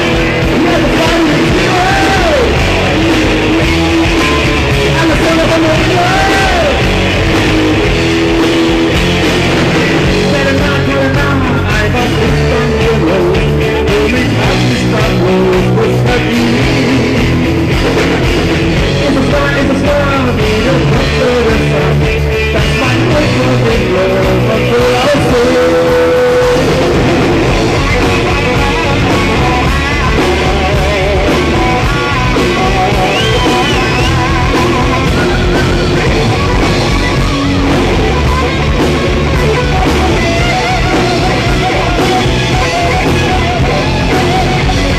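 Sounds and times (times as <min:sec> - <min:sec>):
person singing: 0:00.0 - 0:07.3, 0:09.5 - 0:17.5, 0:18.8 - 0:44.9
bass guitar: 0:00.0 - 0:44.9
drum kit: 0:00.0 - 0:44.9
electric guitar: 0:00.0 - 0:44.9.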